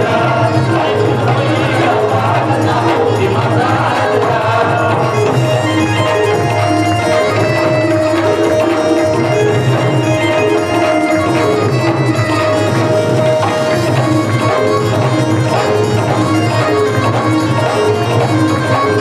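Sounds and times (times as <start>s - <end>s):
hand drums rhythm: 0.0s - 19.0s
reedy melody: 0.0s - 19.0s.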